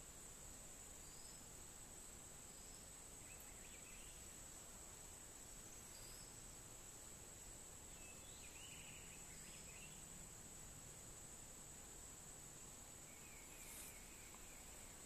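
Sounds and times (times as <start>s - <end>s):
faint insect chirps: 0.0s - 15.0s.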